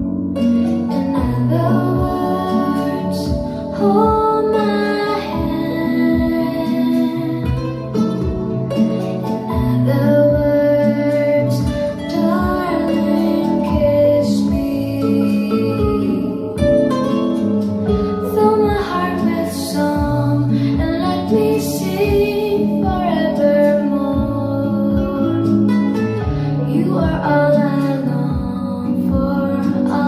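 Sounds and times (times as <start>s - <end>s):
guitar accompaniment: 0.0s - 30.0s
low bass notes: 0.0s - 30.0s
woman singing: 0.7s - 30.0s.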